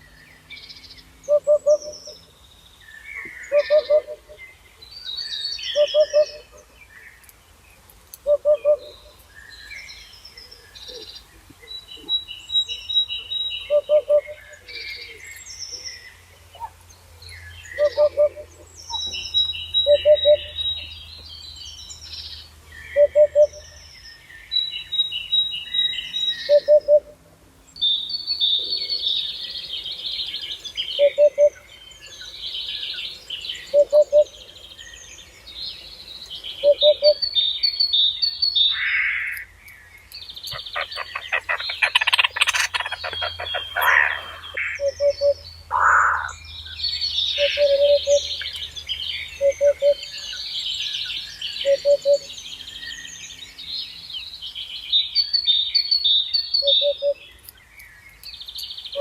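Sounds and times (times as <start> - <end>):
songbirds trilling: 0.0 - 59.0.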